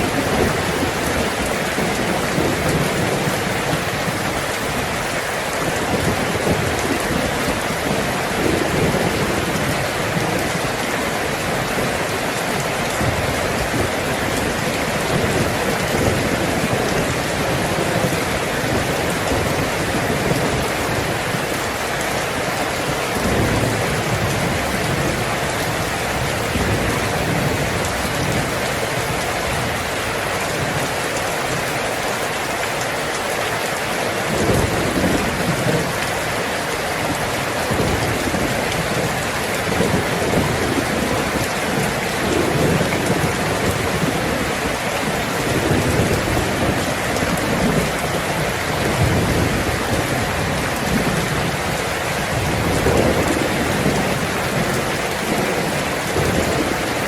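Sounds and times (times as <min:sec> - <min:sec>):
heavy rain on a tin roof: 0:00.0 - 0:57.0
thunder rumbling: 0:00.0 - 0:57.0.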